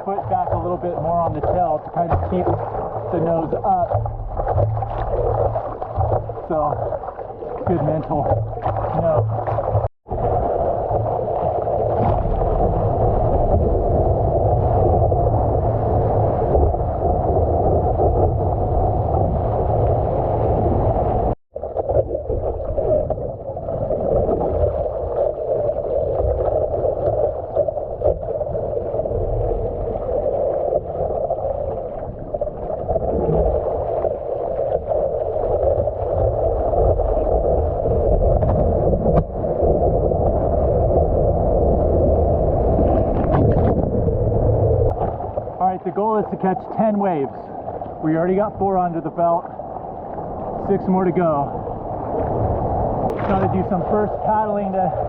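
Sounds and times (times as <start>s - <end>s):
water and wind rushing over microphone: 0.0s - 55.0s.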